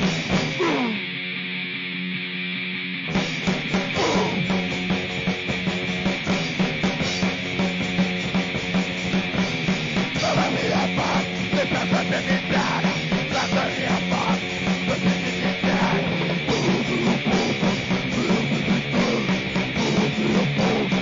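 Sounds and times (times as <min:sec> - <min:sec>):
distorted noise music: 0:00.0 - 0:21.0.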